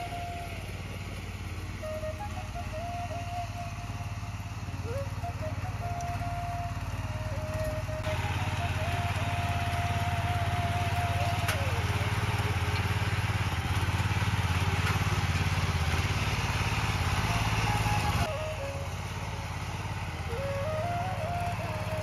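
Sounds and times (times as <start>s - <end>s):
small petrol engine running: 0.0s - 22.0s
tiller tines churning soil: 0.0s - 22.0s.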